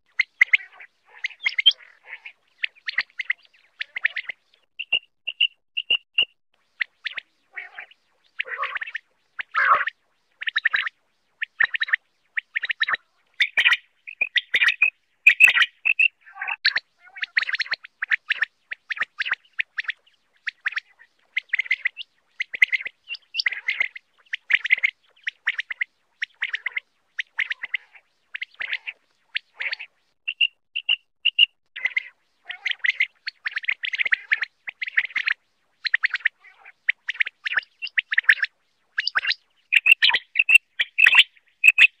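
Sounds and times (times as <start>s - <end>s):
quail calling: 0.2s - 42.0s.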